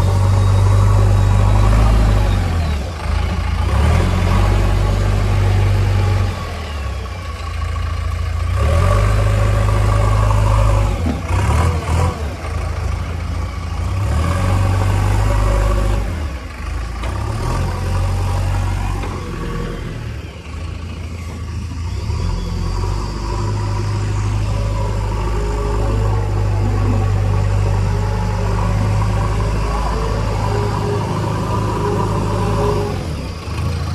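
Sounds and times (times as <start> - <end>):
heavy diesel engine revving: 0.0 - 33.9.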